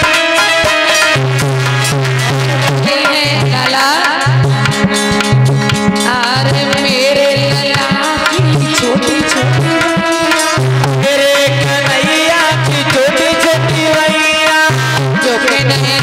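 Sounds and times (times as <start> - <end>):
hand drum beat: 0.0 - 16.0.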